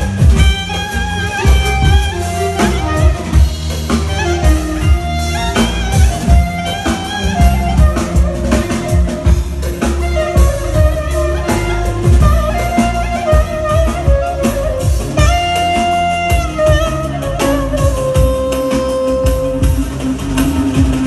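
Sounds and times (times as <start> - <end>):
bass: 0.0 - 21.0
clarinet melody: 0.0 - 21.0
steady drum beat: 0.0 - 21.0.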